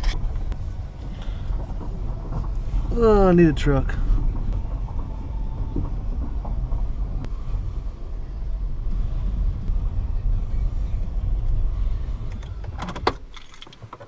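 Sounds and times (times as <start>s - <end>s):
car cabin road noise: 0.0s - 14.0s.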